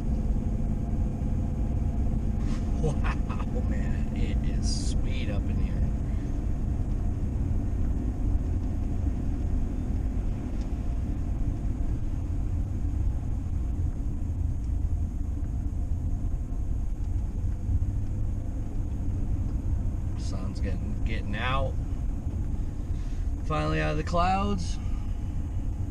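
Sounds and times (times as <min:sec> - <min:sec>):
vehicle engine and road rumble: 0:00.0 - 0:25.9.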